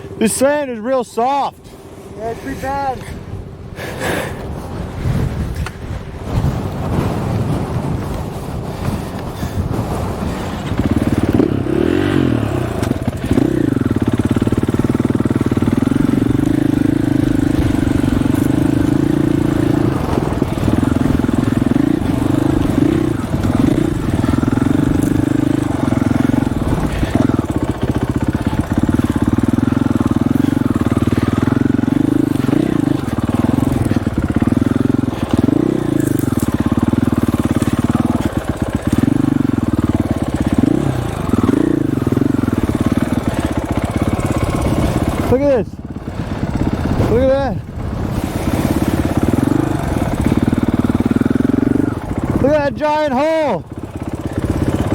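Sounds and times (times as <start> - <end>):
dirt bike engine: 0.0 - 54.9.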